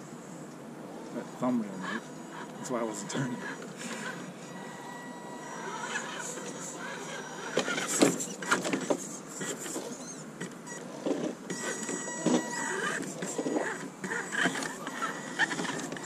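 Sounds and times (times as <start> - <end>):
toy car motor whine: 1.6 - 16.0.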